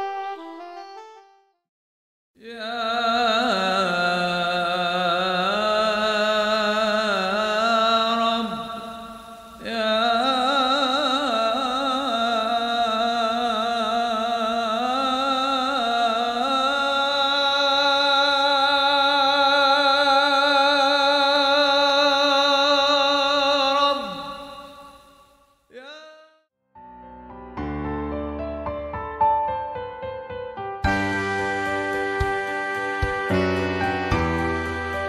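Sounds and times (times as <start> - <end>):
person chanting devotional song: 2.4 - 26.4, 30.8 - 35.0.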